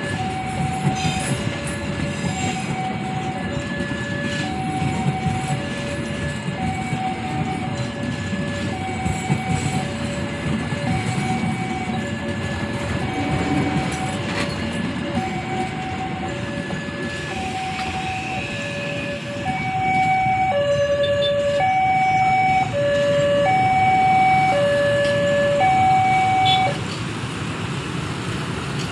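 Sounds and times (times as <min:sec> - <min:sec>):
level-crossing two-tone alarm: 0:00.0 - 0:26.8.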